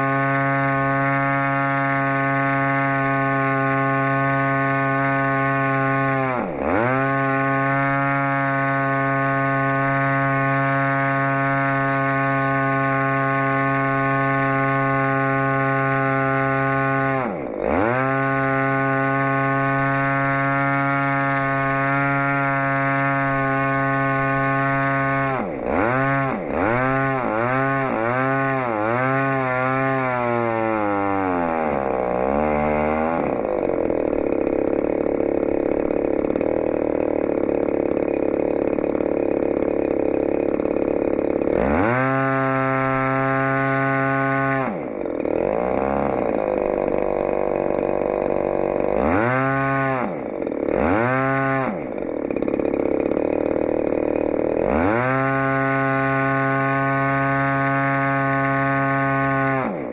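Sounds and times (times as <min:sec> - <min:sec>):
two-stroke engine running at high speed: 0:00.0 - 0:59.9.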